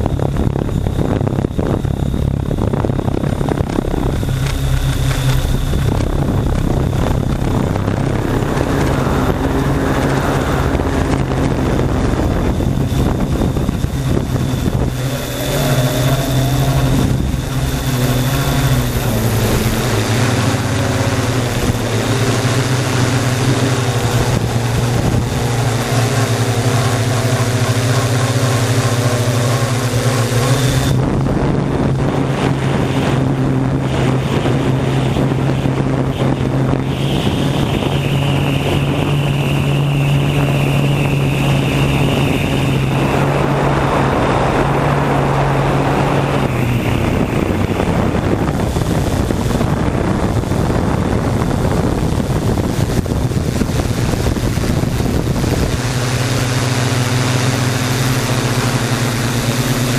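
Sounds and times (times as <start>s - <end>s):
drone propellers whirring: 0.0s - 59.9s
rushing noise: 0.0s - 59.9s.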